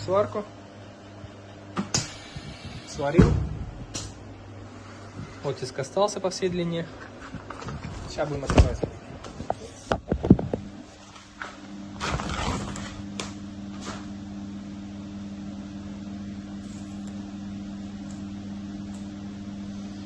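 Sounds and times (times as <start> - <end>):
welding machine humming: 0.0 - 8.5, 10.6 - 20.0.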